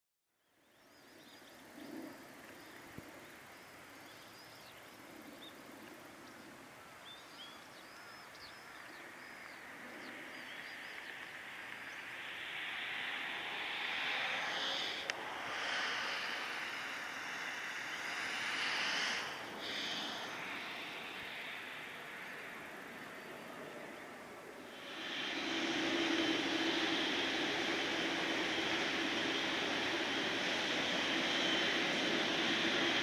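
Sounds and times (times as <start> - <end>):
jet engine rumble: 1.1 - 33.0.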